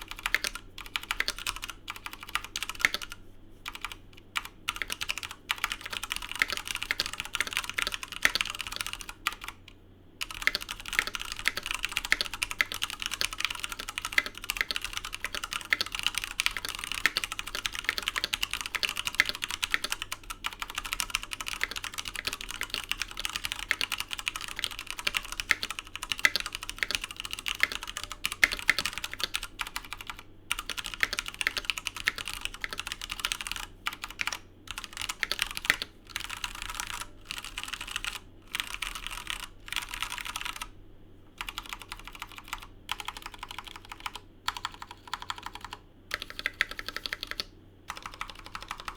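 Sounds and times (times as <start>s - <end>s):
fast typing on mechanical keyboard: 0.0s - 9.6s, 10.2s - 40.7s, 41.4s - 48.9s.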